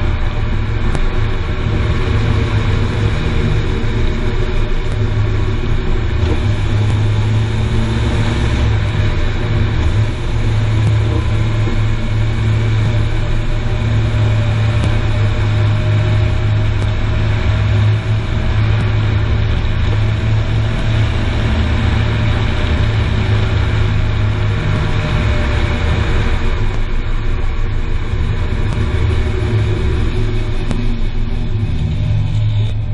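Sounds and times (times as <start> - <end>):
car road rumble: 0.0 - 32.9.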